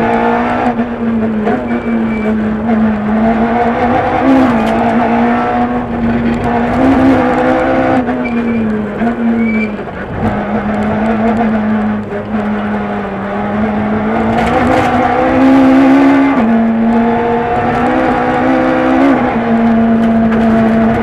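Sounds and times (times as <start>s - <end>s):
car engine running hard: 0.0s - 21.0s
road and tyre noise: 0.0s - 21.0s.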